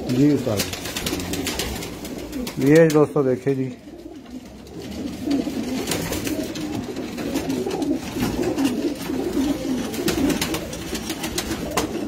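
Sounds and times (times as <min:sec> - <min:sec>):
pigeons cooing: 0:00.0 - 0:03.0, 0:03.7 - 0:12.0.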